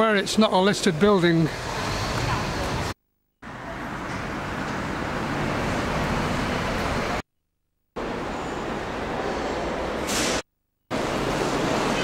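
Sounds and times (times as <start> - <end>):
road traffic: 0.0 - 7.2, 8.0 - 12.0.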